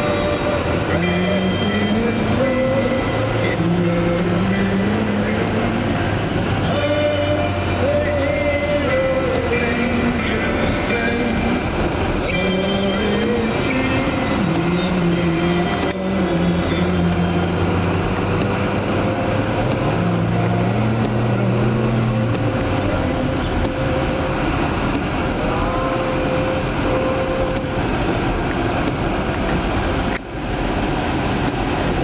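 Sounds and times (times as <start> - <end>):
loud steady rushing noise: 0.0 - 32.0
vehicle engine hum: 0.0 - 32.0.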